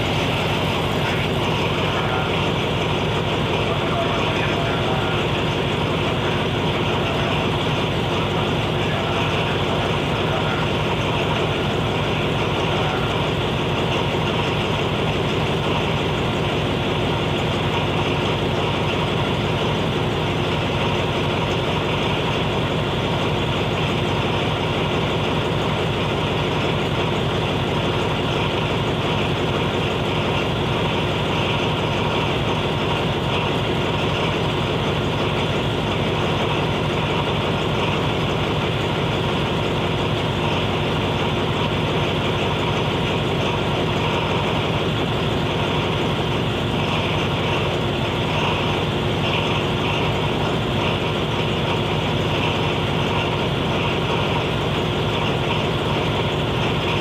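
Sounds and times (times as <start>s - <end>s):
locomotive engine idling: 0.0s - 57.0s.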